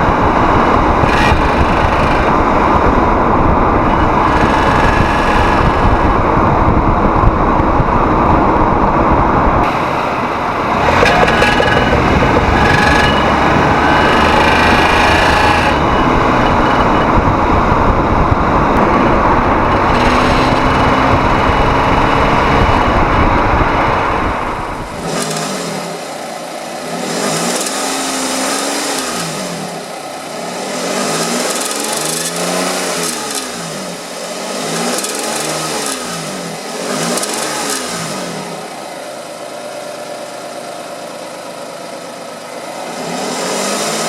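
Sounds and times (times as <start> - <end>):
loud steady rushing noise: 0.0 - 40.4
car engine revving: 0.0 - 44.0
exhaust rattle: 0.0 - 44.0.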